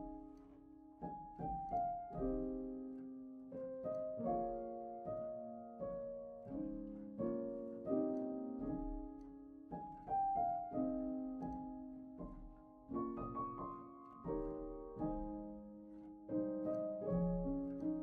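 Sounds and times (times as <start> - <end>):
gentle piano tune: 0.0 - 18.0.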